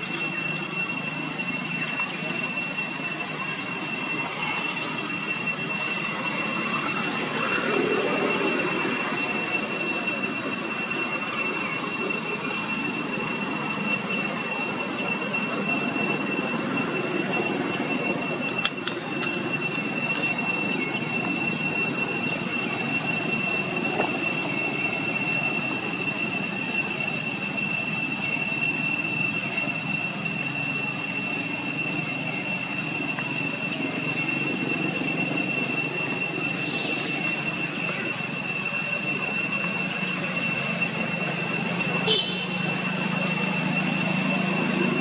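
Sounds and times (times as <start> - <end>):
constant rushing noise: 0.0 - 45.0
steady high-pitched whine: 0.0 - 45.0.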